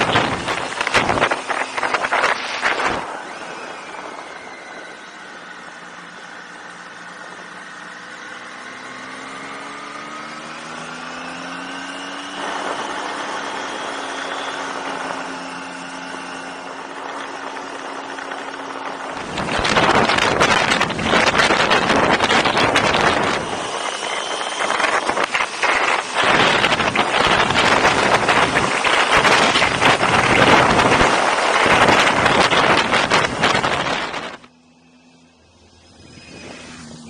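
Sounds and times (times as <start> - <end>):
wind rushing over microphone: 0.0 - 5.9, 10.5 - 34.5, 35.8 - 37.0
motorcycle engine accelerating: 0.0 - 37.0.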